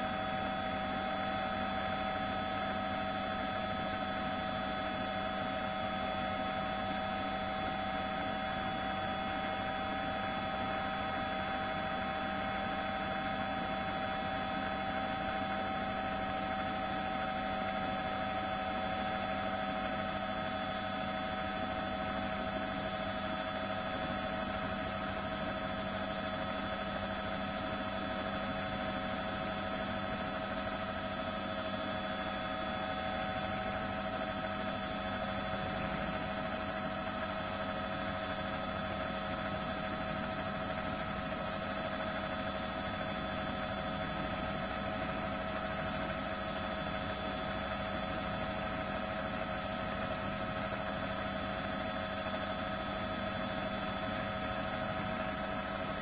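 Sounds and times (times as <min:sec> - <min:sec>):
helicopter drone: 0:00.0 - 0:56.0
steady whining tones: 0:00.0 - 0:56.0.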